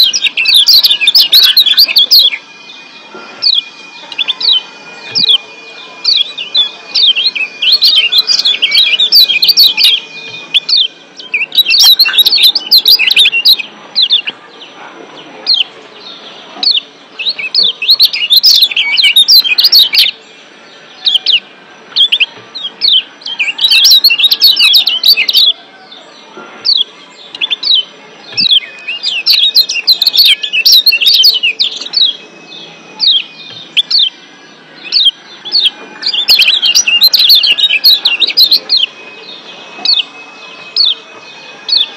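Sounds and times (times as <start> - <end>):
bird high-pitched chirp calls: 0.0 - 41.9.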